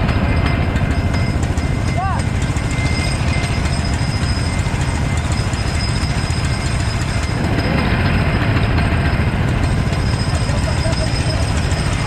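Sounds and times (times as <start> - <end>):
go-kart engines idling: 0.0 - 12.0.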